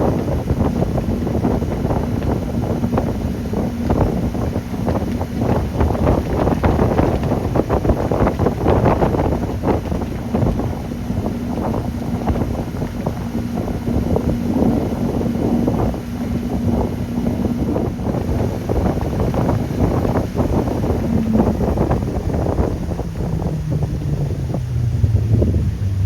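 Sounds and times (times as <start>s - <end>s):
boat engine humming: 0.0s - 26.0s
wind buffeting microphone: 0.0s - 26.0s.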